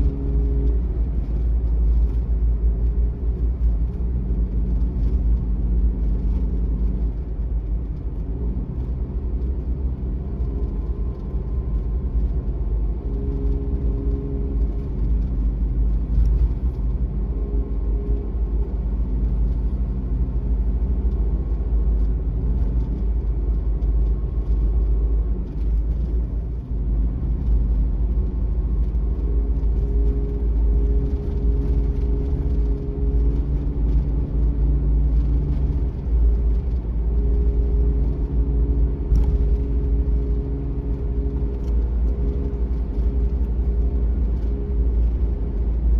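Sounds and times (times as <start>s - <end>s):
van engine rumble: 0.0s - 45.9s.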